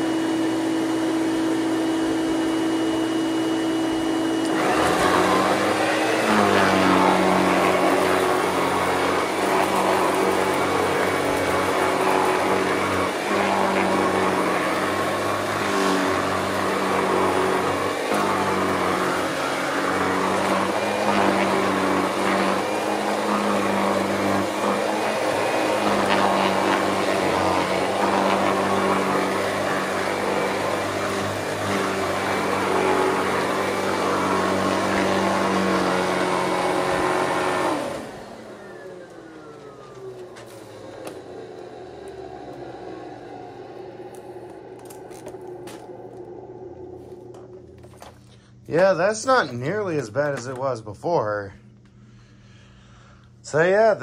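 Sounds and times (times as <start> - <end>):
motor whine winding down: 0.0 - 50.6
vacuum cleaner running: 0.0 - 54.0.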